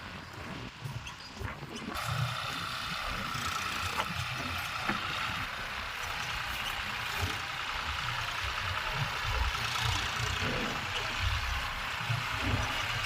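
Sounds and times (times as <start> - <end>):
heavy diesel engine running: 1.9 - 13.0.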